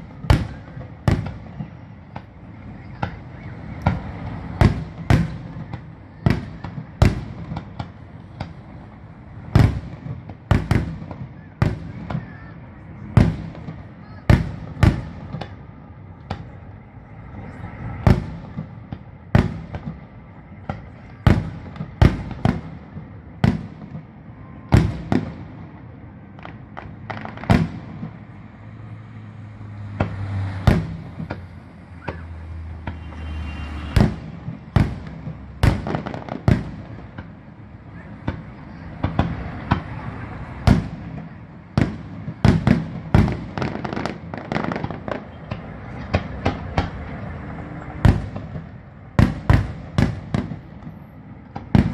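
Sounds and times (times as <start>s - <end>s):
fireworks bursting with echo: 0.0s - 51.9s.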